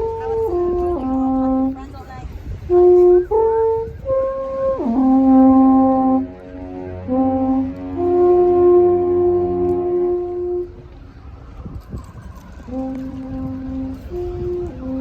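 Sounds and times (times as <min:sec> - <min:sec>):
wind instruments playing slow tune: 0:00.0 - 0:15.0.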